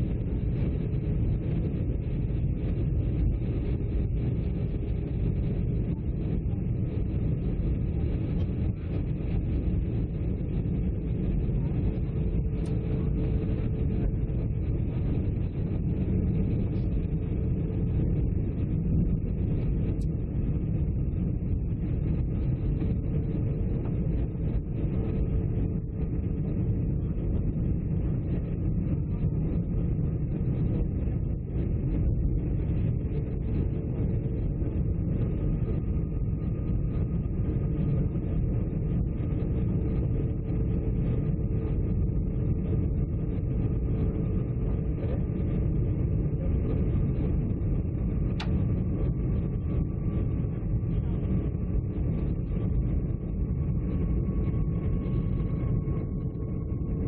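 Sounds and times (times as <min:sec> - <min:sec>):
faint steady hum: 0:00.0 - 0:57.0
jet engine cabin rumble: 0:00.0 - 0:57.0.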